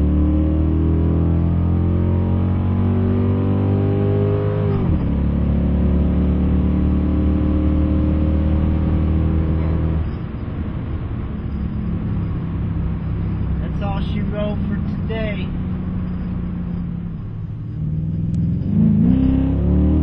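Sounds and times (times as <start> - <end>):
car engine revving through gears: 0.0 - 10.2, 11.5 - 20.0.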